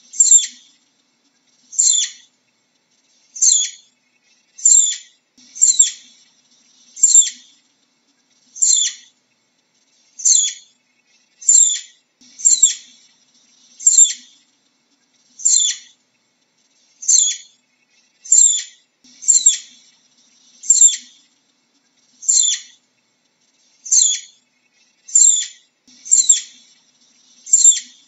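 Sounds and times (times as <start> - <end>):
flying squirrel chirping: 0.0 - 0.8, 1.5 - 7.6, 8.2 - 9.2, 9.8 - 14.5, 15.1 - 16.0, 16.6 - 28.0.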